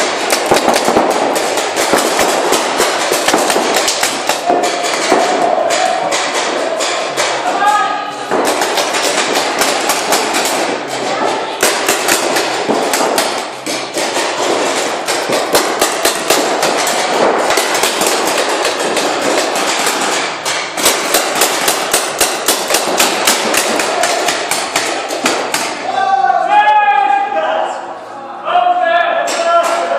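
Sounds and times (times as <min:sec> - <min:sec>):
paintball markers firing: 0:00.0 - 0:07.4, 0:08.3 - 0:10.8, 0:11.6 - 0:25.8.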